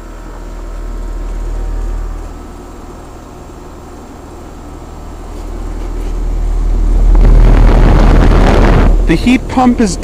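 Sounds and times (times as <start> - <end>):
heat pump humming: 0.0 - 10.0.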